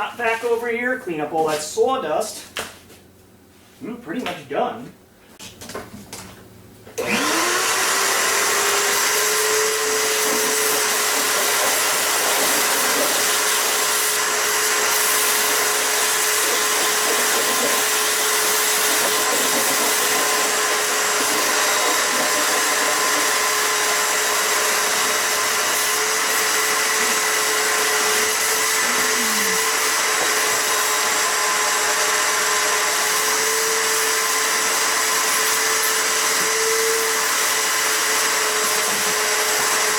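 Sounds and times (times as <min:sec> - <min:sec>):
shop vacuum motor running: 0:06.9 - 0:39.9.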